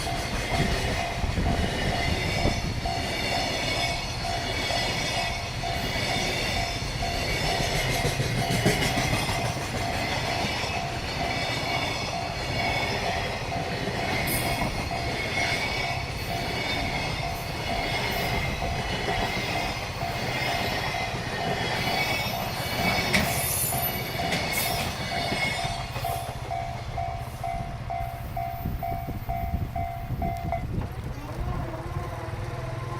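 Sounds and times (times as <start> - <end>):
crossing alarm bell ringing: 0.0 - 30.8
high wheel squeals: 0.0 - 31.2
freight train wheels on rails: 0.0 - 32.9.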